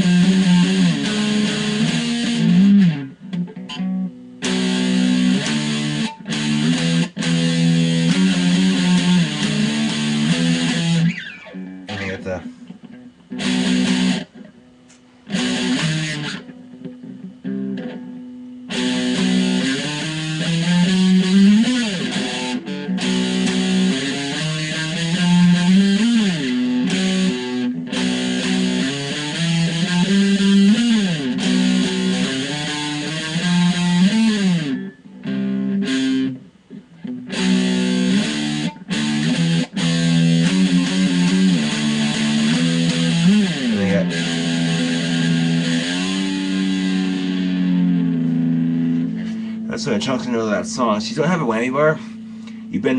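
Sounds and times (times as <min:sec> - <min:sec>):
electric guitar riff: 0:00.0 - 0:52.9.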